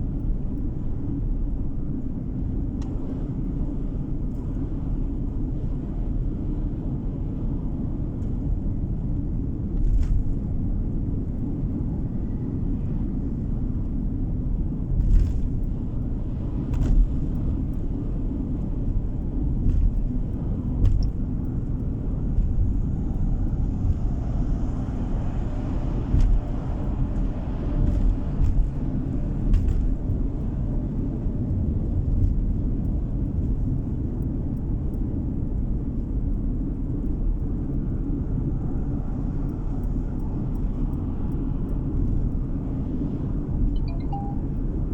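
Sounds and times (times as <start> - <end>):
car road noise rumble: 0.0 - 44.9.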